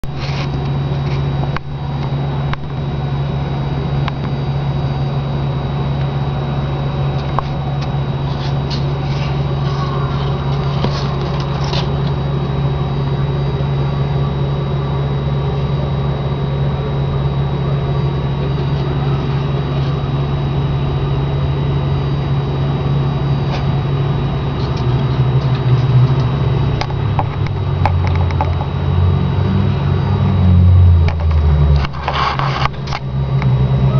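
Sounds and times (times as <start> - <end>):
loud low machine hum: 0.0 - 33.9.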